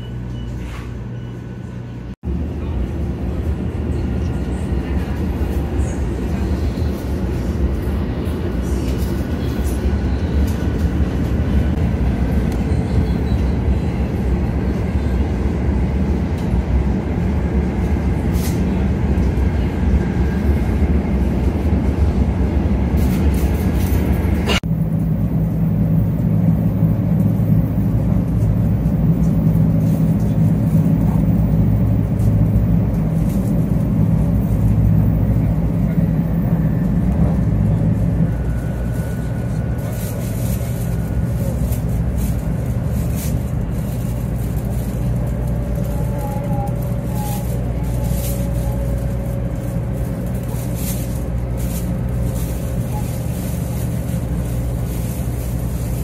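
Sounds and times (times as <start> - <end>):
train rumbling on track: 0.0 - 56.0.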